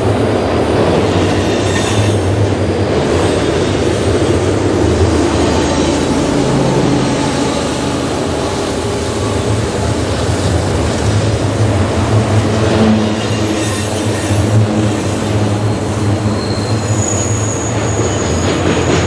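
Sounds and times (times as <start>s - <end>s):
diesel locomotive engine hum: 0.0s - 19.0s
train wheels rumbling on rail: 0.0s - 19.0s.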